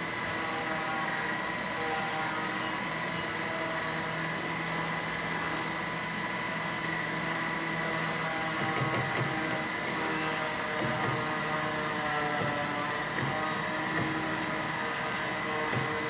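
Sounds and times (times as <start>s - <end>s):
milling machine hum and whine: 0.0s - 16.0s.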